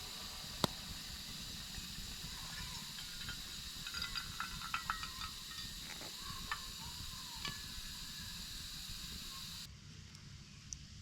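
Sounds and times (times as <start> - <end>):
steady hiss: 0.0 - 9.7
wood fire crackling: 0.0 - 9.7.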